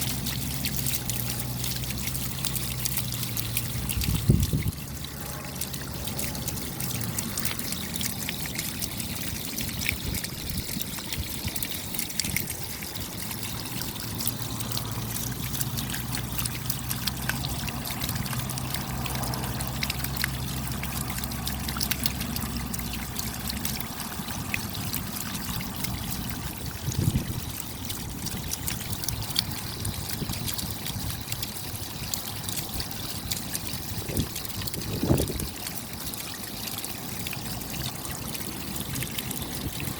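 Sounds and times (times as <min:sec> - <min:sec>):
rain pattering: 0:00.0 - 0:39.9
water trickling: 0:00.0 - 0:39.9.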